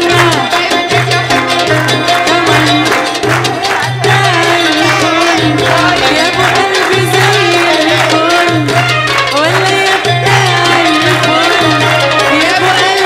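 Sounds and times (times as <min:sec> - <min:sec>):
hand percussion: 0:00.0 - 0:13.0
live band playing pop song: 0:00.0 - 0:13.0
people clapping in time: 0:00.0 - 0:13.0
woman singing into microphone: 0:00.0 - 0:13.0.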